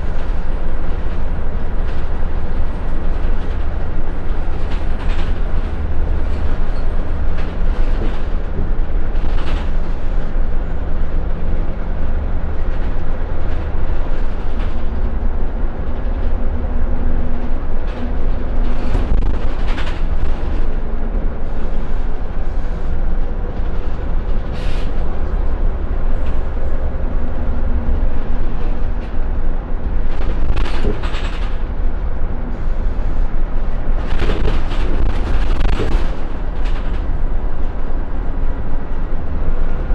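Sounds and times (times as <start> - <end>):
bus diesel engine rumble: 0.0 - 39.9
road noise: 0.0 - 39.9.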